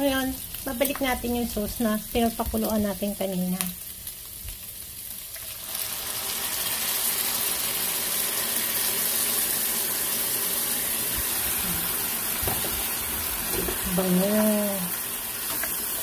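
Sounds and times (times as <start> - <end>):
oil hissing and sizzling: 0.0 - 16.0.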